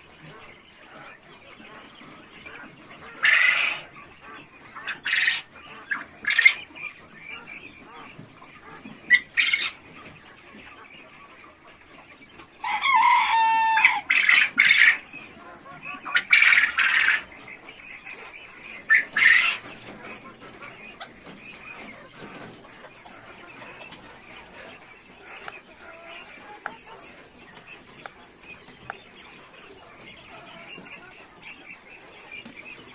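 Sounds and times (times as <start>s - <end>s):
quail crowing: 0.0s - 10.2s, 12.4s - 32.9s.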